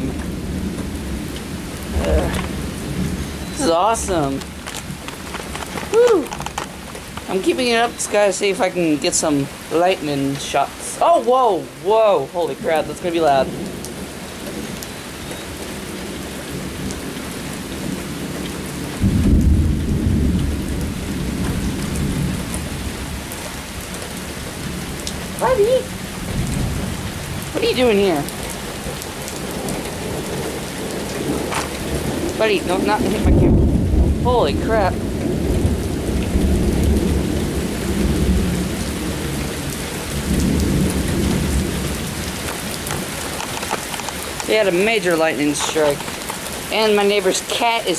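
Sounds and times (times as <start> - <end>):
thunderclap rumbling: 0.0 - 14.8, 15.4 - 47.9
steady rain falling: 0.0 - 47.9.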